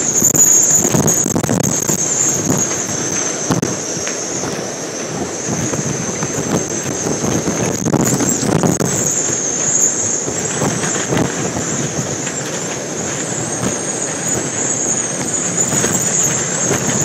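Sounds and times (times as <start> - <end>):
high whistling wind hiss: 0.0 - 17.0
strong wind buffeting microphone: 0.0 - 17.0.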